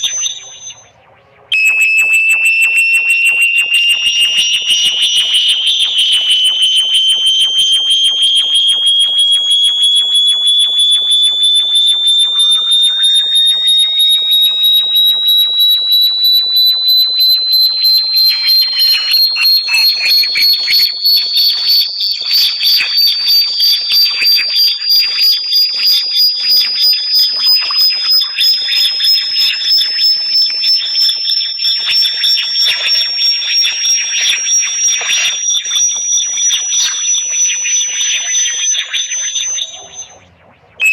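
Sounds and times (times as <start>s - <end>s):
high whistling tones: 0.0s - 40.9s
high-pitched pulsing electronic tone: 0.0s - 40.9s.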